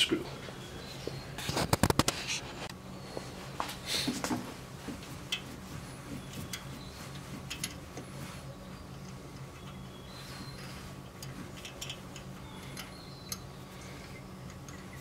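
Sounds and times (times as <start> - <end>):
low hum: 0.2 - 15.0.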